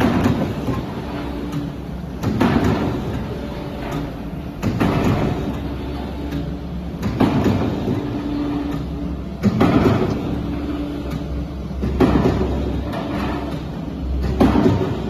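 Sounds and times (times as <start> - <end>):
roll forming machine humming: 0.0 - 15.0.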